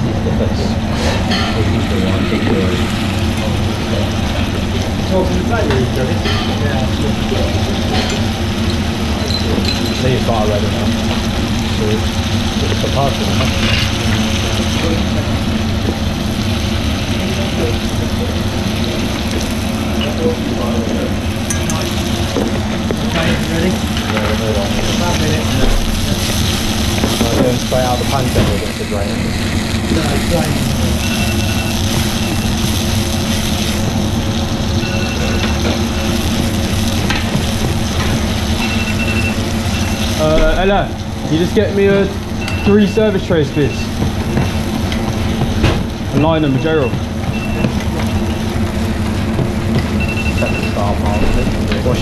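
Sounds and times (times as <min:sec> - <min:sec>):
distant voices: 0:00.0 - 0:52.0
low steady hum: 0:00.0 - 0:52.0
mushrooms sizzling in a pan: 0:01.6 - 0:52.0.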